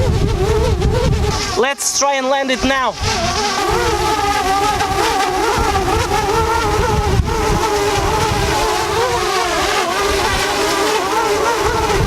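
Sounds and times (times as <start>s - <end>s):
wind buffeting microphone: 0.0s - 1.9s, 2.6s - 12.0s
drone propellers whining: 0.0s - 12.0s.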